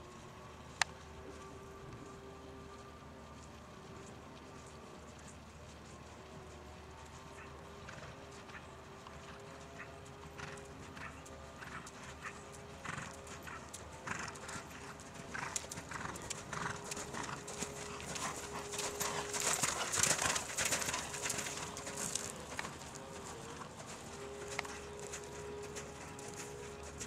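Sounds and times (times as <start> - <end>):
horse hoofbeats cantering on sand: 0.0 - 27.0.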